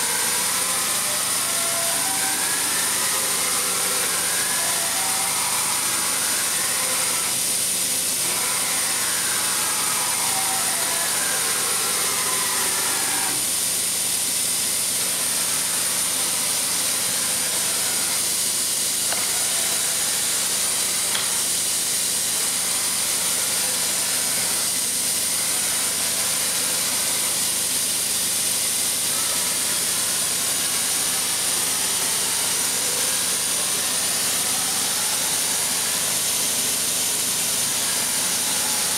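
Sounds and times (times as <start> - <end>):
machine axis drives whining: 0.0 - 13.9, 15.0 - 38.9
constant high machine tone: 0.0 - 38.9
steady machine hiss: 0.0 - 38.9.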